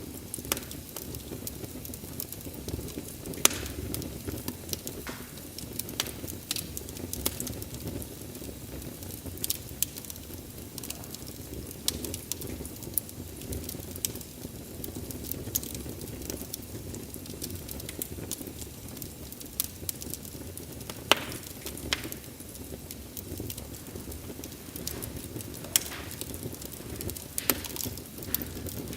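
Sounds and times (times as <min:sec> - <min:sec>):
low rumble of flames: 0:00.0 - 0:28.9
wood fire crackling and popping: 0:00.0 - 0:28.9.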